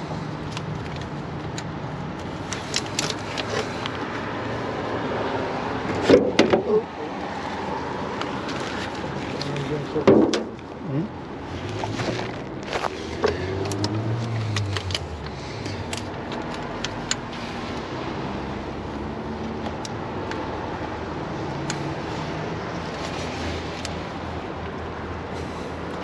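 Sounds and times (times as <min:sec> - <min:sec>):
car engine low hum: 0:00.0 - 0:26.0.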